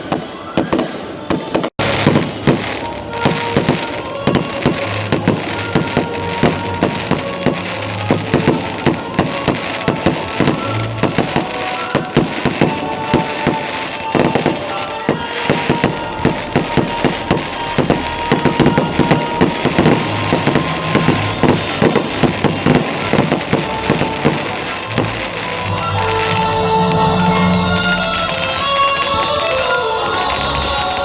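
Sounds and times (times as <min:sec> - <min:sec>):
fireworks bangs and crackles: 0:00.0 - 0:27.5, 0:28.2 - 0:31.0
music playing: 0:01.6 - 0:31.0.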